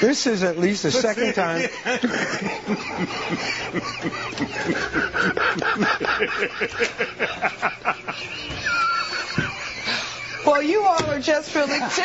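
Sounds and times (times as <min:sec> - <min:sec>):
people laughing hard: 0:00.8 - 0:10.8.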